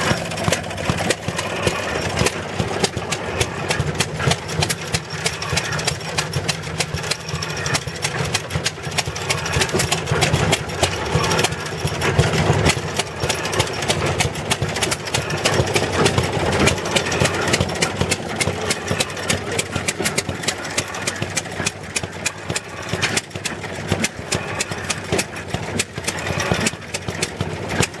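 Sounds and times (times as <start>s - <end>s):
small gasoline engine running: 0.0s - 28.0s.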